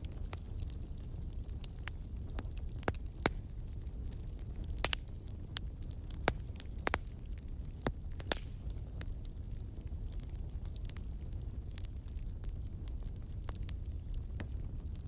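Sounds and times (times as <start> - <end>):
fireplace crackling: 0.0 - 15.0.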